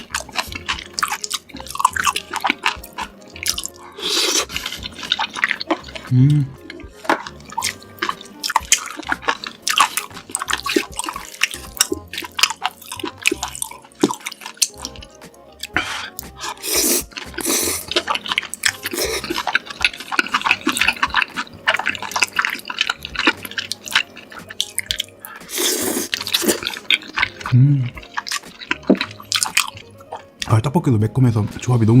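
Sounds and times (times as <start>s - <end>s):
sticky mouth clicks: 0.0s - 30.3s
wet chewing and smacking: 0.0s - 30.6s.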